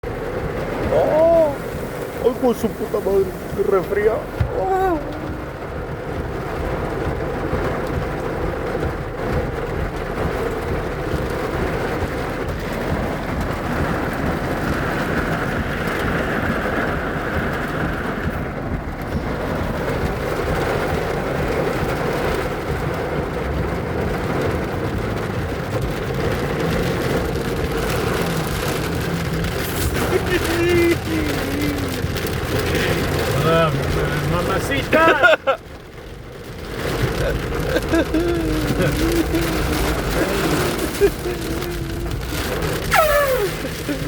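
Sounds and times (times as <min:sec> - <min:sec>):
heavy rain pouring: 0:00.0 - 0:44.0
low rumble: 0:02.8 - 0:44.0.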